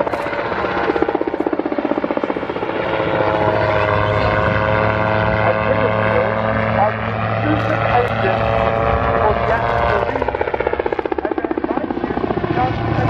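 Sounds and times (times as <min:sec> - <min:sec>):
engine and propeller drone: 0:00.0 - 0:13.0
rotor blades beating rapidly: 0:00.0 - 0:13.0.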